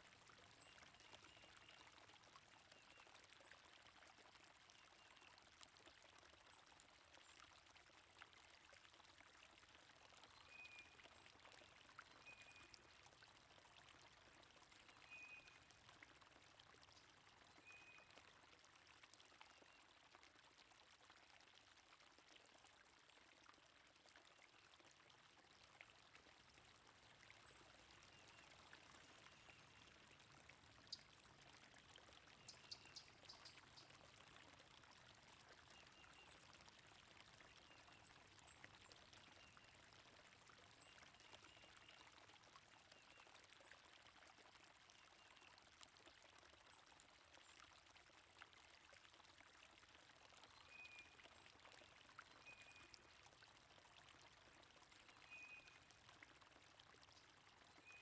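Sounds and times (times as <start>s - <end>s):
faint stream water running: 0.0s - 58.0s.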